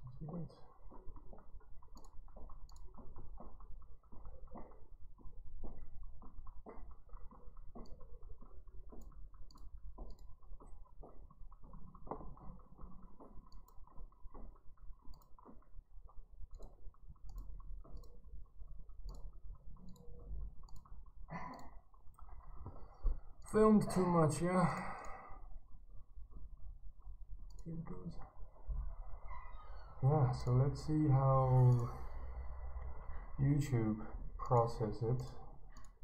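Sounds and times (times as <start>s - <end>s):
faint clicking and tapping: 0.0s - 36.0s.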